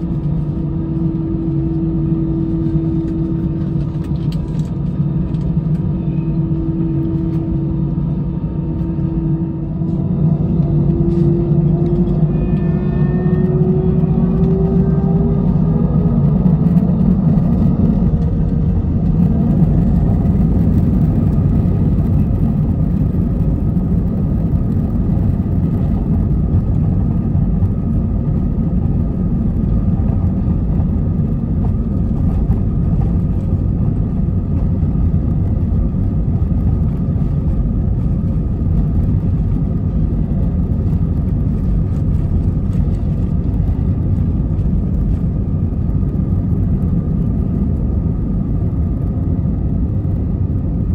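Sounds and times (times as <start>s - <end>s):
faint engine whine: 0.0s - 50.9s
jet engine deep rumble: 0.0s - 50.9s.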